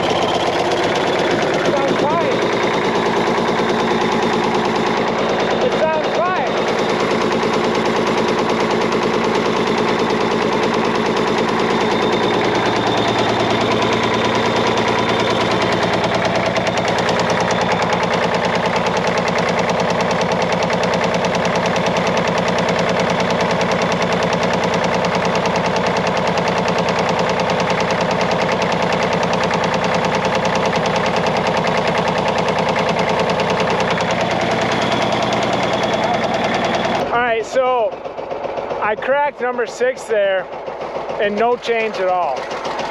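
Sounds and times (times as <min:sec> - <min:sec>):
diesel engine exhaust pulses: 0:00.0 - 0:42.9.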